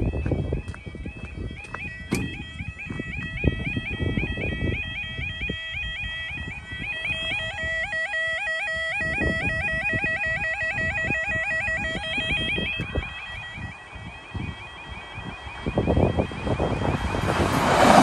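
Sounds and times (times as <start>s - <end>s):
level crossing alarm warbling: 0.0s - 17.9s
wind buffeting microphone: 0.0s - 18.0s.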